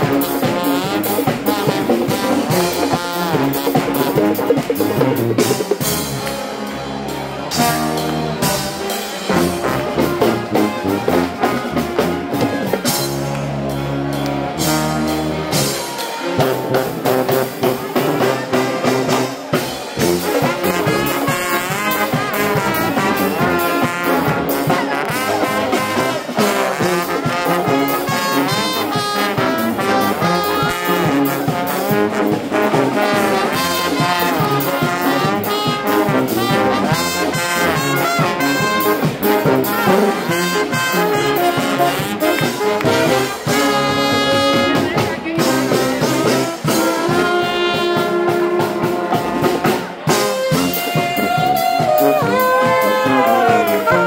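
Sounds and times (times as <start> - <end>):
brass band playing: 0.0 - 54.0
drum kit: 0.0 - 54.0.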